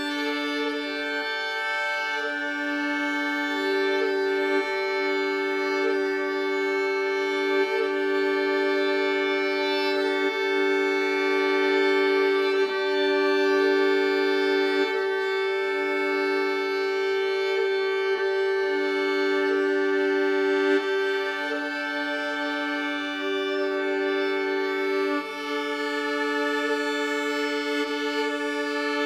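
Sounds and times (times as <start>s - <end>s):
violin drone note: 0.0s - 29.0s.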